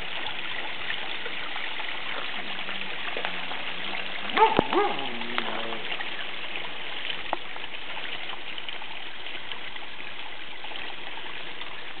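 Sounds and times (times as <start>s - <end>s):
running water trickling in pond: 0.0s - 12.0s.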